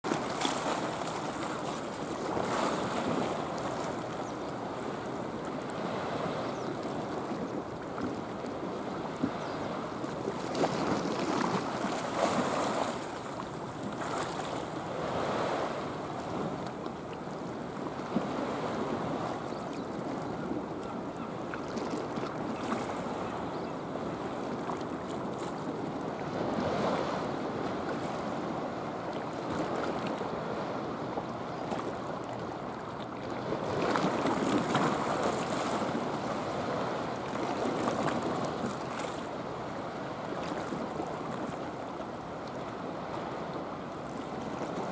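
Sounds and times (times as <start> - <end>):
sea water lapping: 0.0 - 44.9.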